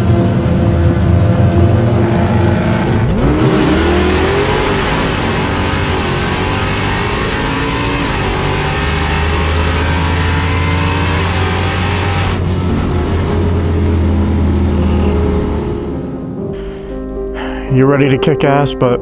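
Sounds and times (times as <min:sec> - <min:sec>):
loud car engine running: 0:00.0 - 0:16.4.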